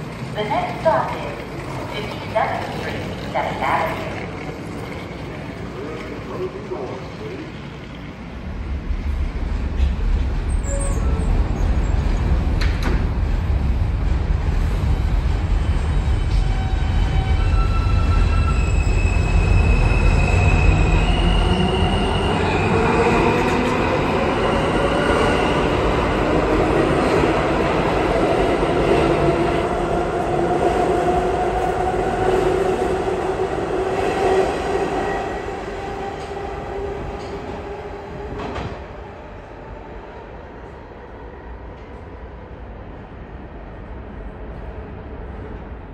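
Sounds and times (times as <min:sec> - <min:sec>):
train wheels rumbling on rails: 0:00.0 - 0:39.5.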